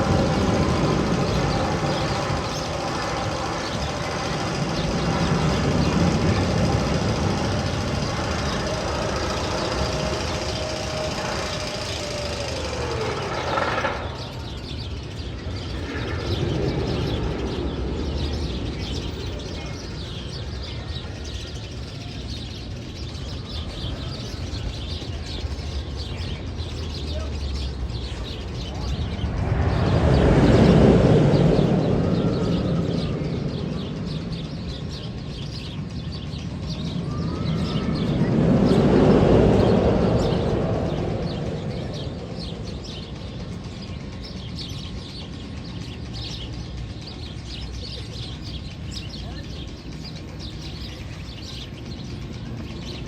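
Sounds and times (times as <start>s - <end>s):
birds chirping: 0.0s - 53.0s
low rumble: 0.0s - 53.0s.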